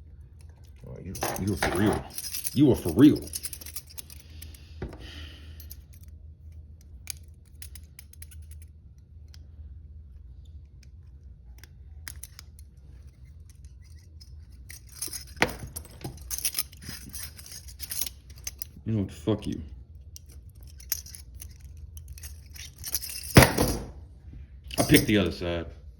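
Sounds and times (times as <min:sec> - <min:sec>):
handcuffs rattling: 0:00.2 - 0:09.5, 0:10.7 - 0:18.8, 0:19.9 - 0:24.0, 0:24.7 - 0:25.3
lock pick clicking in handcuffs: 0:00.3 - 0:09.5, 0:10.5 - 0:18.8, 0:20.0 - 0:23.9.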